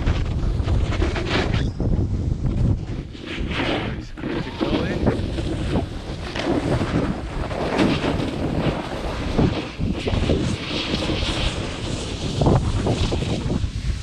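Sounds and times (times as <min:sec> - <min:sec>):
snowboard sliding on snow: 0:00.0 - 0:14.0
wind buffeting microphone: 0:00.0 - 0:14.0.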